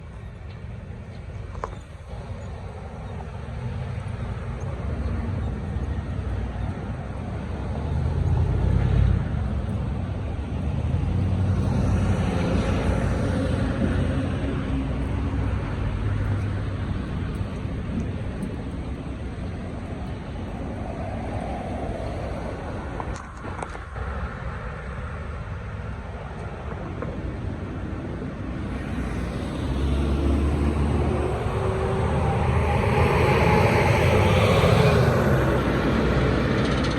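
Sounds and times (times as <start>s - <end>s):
street traffic rumble: 0.0s - 36.9s.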